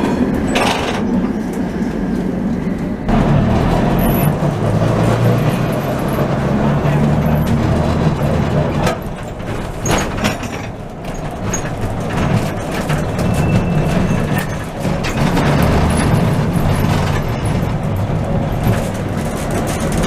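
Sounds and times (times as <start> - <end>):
tram clanks and knocks: 0.0 - 20.0
tram motor and gear hum: 0.0 - 20.0.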